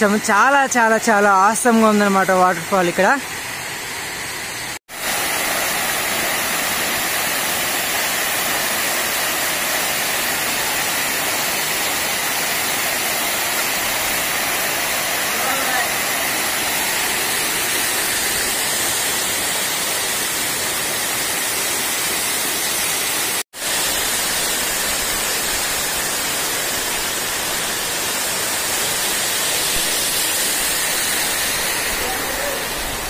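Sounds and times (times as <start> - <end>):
waterfall rushing: 4.9 - 33.0.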